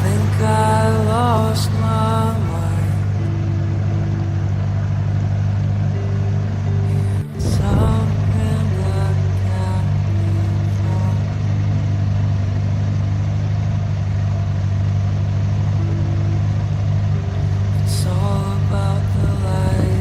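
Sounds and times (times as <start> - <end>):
boat engine droning: 0.0 - 20.0
faint music: 0.0 - 20.0.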